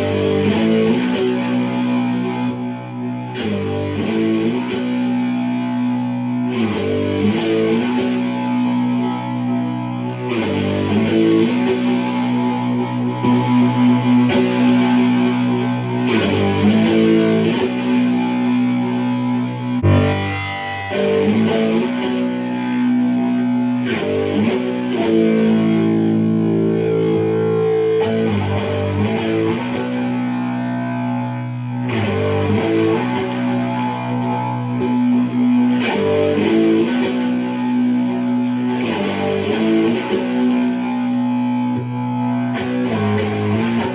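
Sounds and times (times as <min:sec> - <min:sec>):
distorted electric guitar chords: 0:00.0 - 0:43.9.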